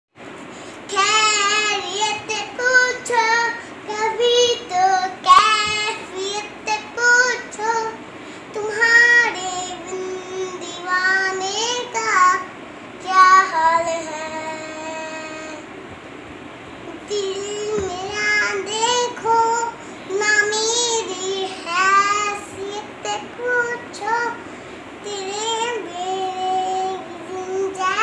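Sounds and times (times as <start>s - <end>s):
girl singing: 0.8s - 15.7s, 16.8s - 28.0s.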